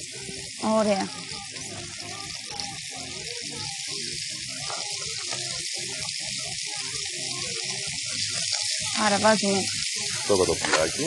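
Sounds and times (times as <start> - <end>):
background music: 0.0 - 11.0
chicken sizzling in hot oil: 0.0 - 11.0.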